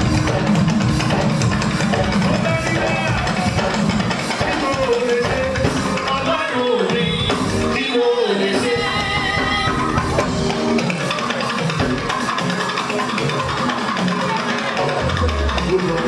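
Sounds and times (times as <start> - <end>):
drums and band accompaniment: 0.0 - 16.0.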